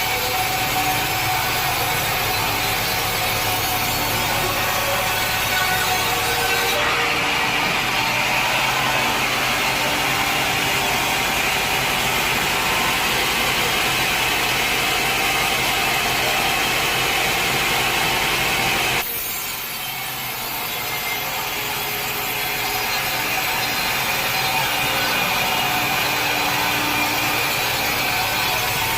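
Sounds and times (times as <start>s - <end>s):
saw blade cutting log: 0.0s - 28.9s.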